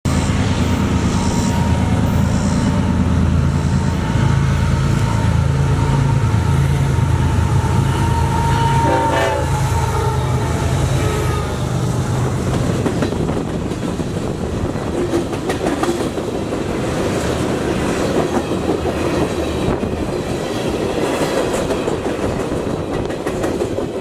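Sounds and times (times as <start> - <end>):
steel wheels on rail: 0.1 - 24.0.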